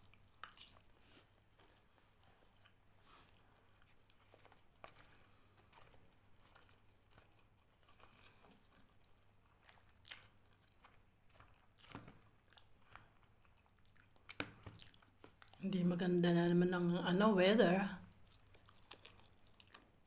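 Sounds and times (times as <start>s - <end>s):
chewing mouth sounds: 0.0s - 15.7s, 18.0s - 20.0s.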